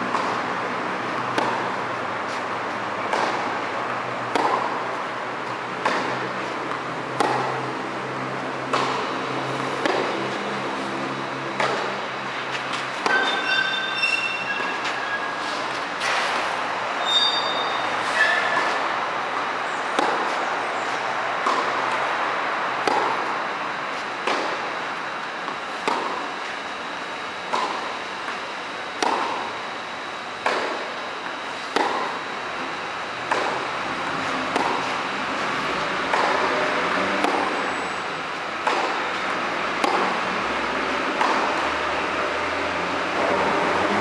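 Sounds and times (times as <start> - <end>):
rackets hitting tennis ball: 0.1 - 0.5, 1.2 - 13.8, 17.4 - 26.6, 27.4 - 29.6, 30.3 - 37.7, 38.5 - 44.0.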